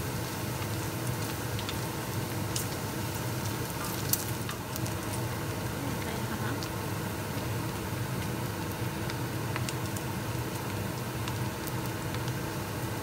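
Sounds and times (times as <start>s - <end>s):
bacon sizzling in fat: 0.0s - 13.0s.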